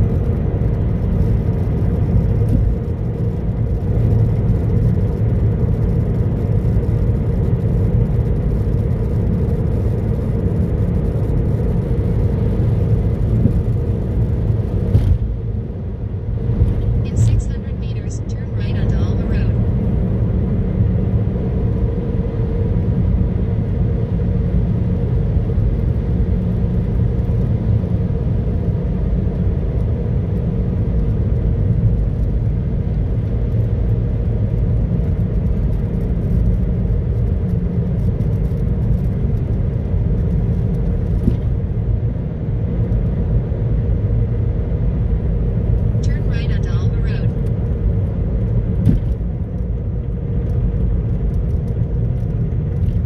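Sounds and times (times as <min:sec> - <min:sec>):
car interior road rumble: 0:00.0 - 0:53.0.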